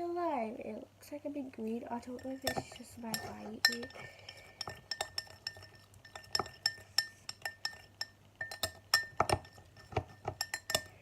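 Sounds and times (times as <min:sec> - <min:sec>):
utensil clinking against bowl: 0:02.0 - 0:11.0.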